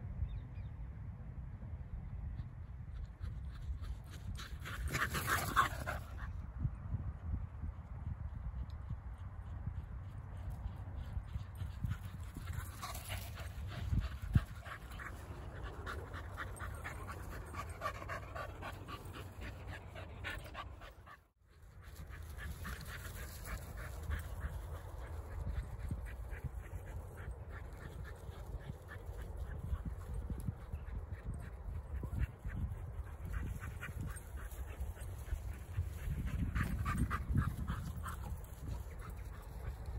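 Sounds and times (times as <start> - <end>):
wind rumble on microphone: 0.0 - 20.5, 21.6 - 39.9
dogs panting: 3.6 - 6.3, 10.4 - 39.9.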